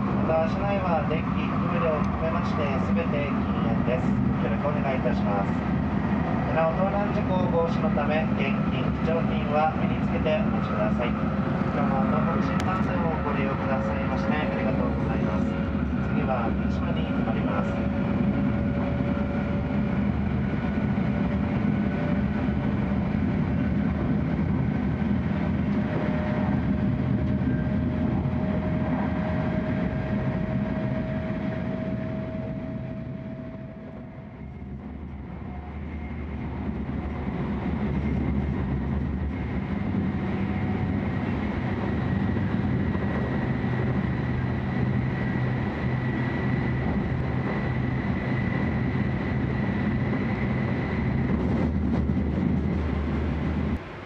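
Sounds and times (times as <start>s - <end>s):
train running gear rumble: 0.0s - 54.0s.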